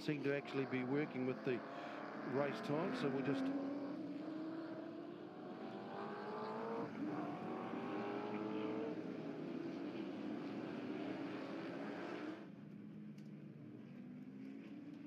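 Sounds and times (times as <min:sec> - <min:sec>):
race cars at full throttle: 0:00.0 - 0:15.0.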